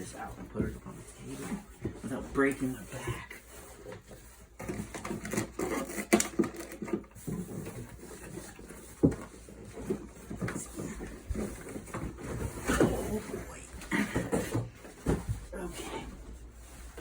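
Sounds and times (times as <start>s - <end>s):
cardboard scraping and rustling: 0.0s - 17.0s.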